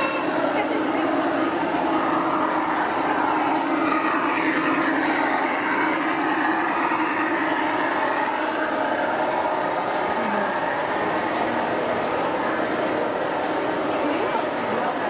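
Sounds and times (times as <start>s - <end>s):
model train rolling along track: 0.0s - 15.0s.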